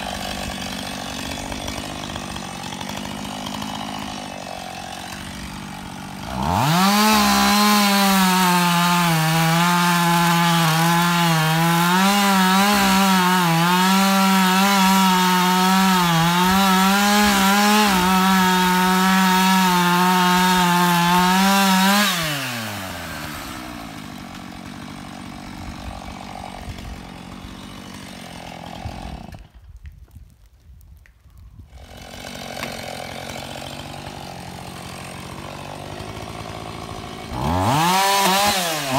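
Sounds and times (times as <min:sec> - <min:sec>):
chainsaw idling: 0:00.0 - 0:29.5, 0:31.8 - 0:38.9
chainsaw cutting wood: 0:00.0 - 0:30.3, 0:31.7 - 0:38.9.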